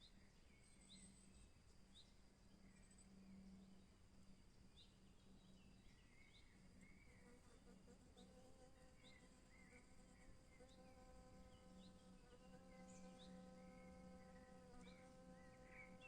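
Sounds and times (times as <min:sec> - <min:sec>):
faint forest birdsong: 0:00.0 - 0:16.0
steady insect buzz: 0:00.0 - 0:16.0.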